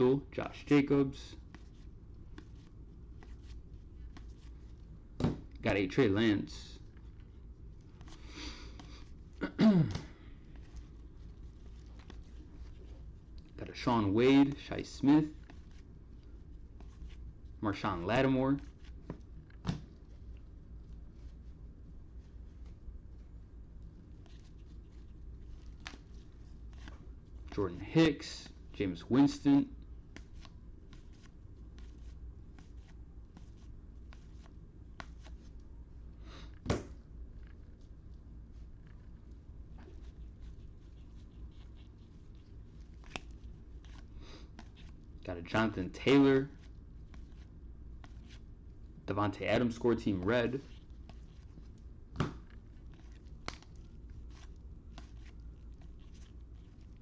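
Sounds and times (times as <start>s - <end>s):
cards rustling and ticking: 1.3s - 4.9s, 6.8s - 21.6s, 22.2s - 35.7s, 37.3s - 57.0s.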